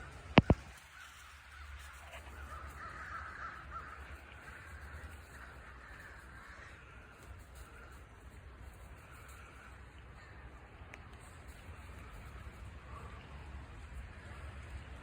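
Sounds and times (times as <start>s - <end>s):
distant crows cawing: 0.0s - 15.0s.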